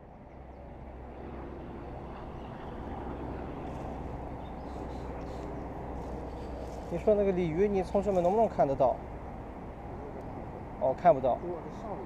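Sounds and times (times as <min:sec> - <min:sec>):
low outdoor background rumble: 0:00.0 - 0:12.0.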